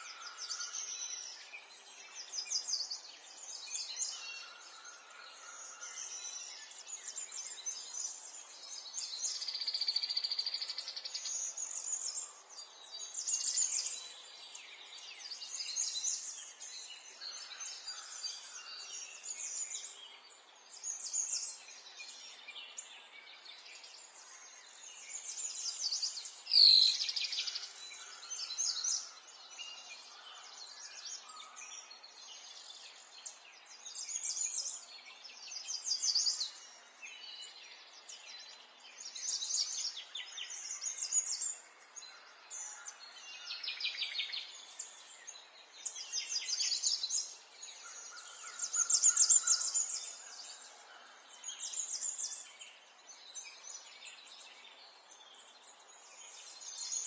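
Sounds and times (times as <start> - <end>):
birds singing and chirping: 0.0 - 57.0
faint outdoor background noise: 0.0 - 57.0.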